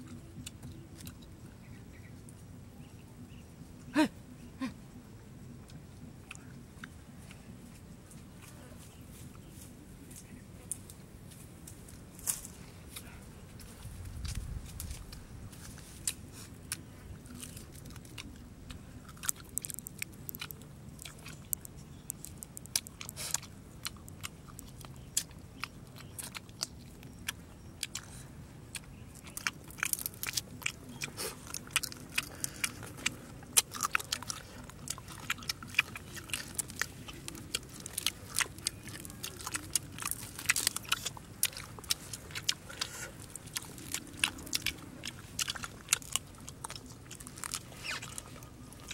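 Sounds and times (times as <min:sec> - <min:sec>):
roasted meat crunching and crackling: 0:06.3 - 0:48.9.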